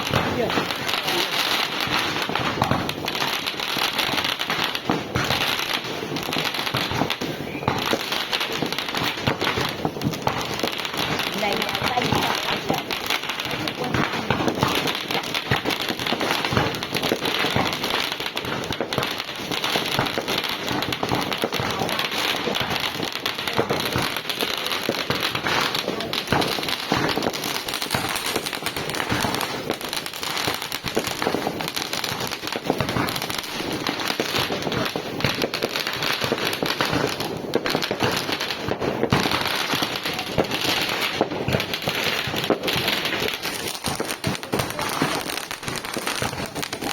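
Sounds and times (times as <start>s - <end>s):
fireworks crackling: 0.0s - 46.9s.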